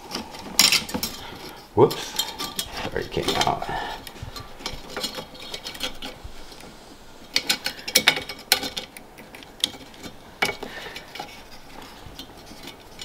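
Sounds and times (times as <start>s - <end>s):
plastic fan clicking and rattling: 0.0s - 13.0s.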